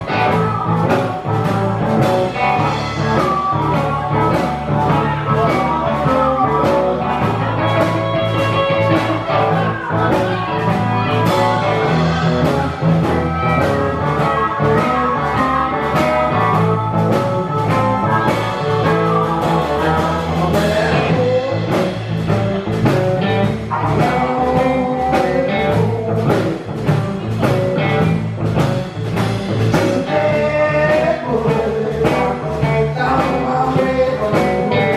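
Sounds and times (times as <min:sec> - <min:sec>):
electric guitar: 0:00.0 - 0:34.9
live blues-rock band: 0:00.0 - 0:34.9
steady drumbeat: 0:00.0 - 0:34.9.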